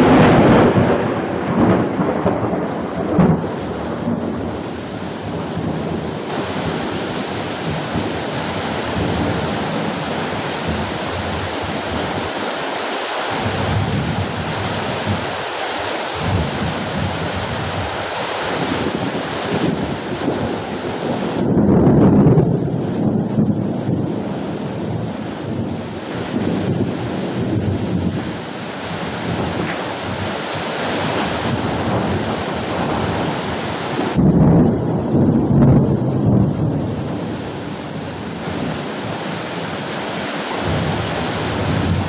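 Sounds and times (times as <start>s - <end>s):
rolling thunder: 0.0s - 12.2s, 16.2s - 39.3s, 40.6s - 42.0s
heavy rain pouring: 0.0s - 42.0s.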